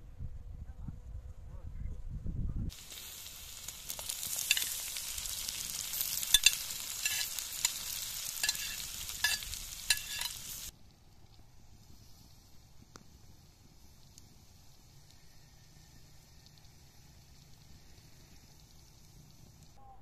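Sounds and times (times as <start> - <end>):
food sizzling in hot oil: 2.7 - 10.7, 11.8 - 19.8.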